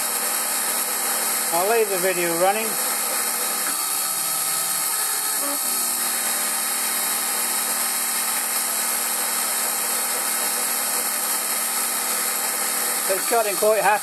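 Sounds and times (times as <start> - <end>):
lathe machine whine: 0.0 - 14.0.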